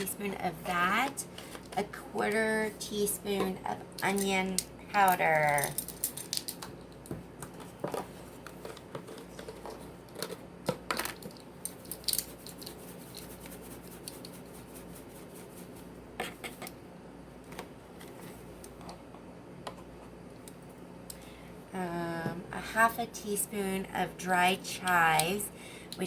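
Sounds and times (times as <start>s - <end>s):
faint room hum: 0.0s - 26.0s.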